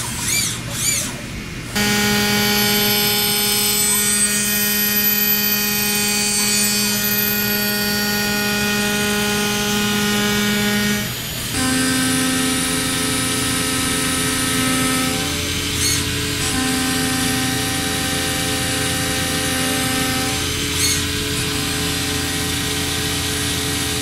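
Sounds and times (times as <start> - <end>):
high machine whine: 0.0 - 24.0
machine mechanical hum: 0.0 - 24.0.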